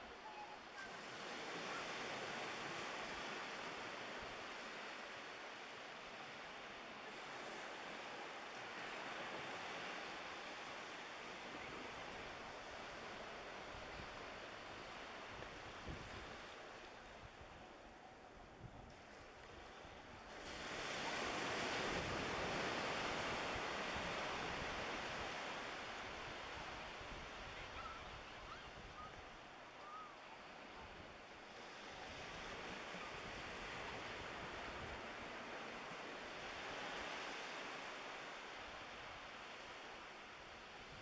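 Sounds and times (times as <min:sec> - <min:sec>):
small waves washing onto shore: 0:00.0 - 0:41.0.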